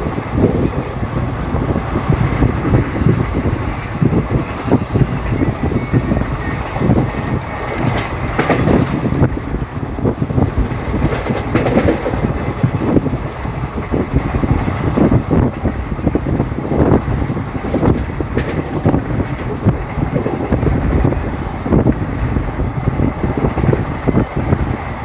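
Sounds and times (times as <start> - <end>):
train rail rumble: 0.0 - 25.0
wheels clattering: 0.0 - 25.0
wind buffeting microphone: 0.0 - 25.0.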